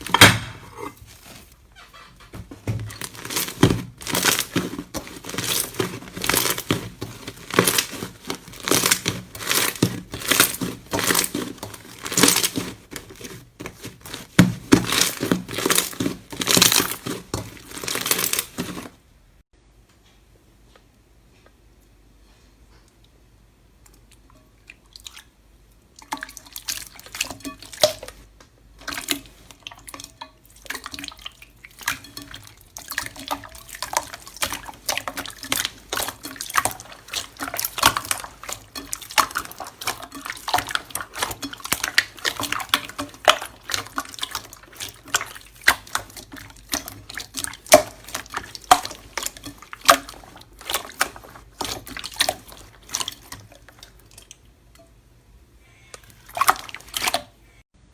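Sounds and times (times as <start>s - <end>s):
slime squishing: 0.0s - 19.0s, 26.0s - 54.5s, 56.0s - 57.4s.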